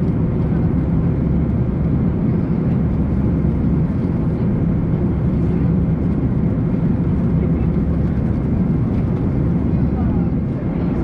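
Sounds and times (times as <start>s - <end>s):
airplane cabin noise: 0.0s - 11.0s.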